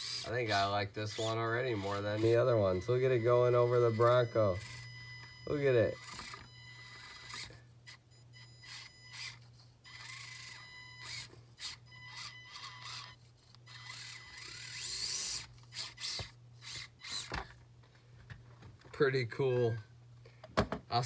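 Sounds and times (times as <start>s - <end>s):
toy truck motor whining: 0.0s - 17.6s
steady low hum: 0.0s - 20.4s.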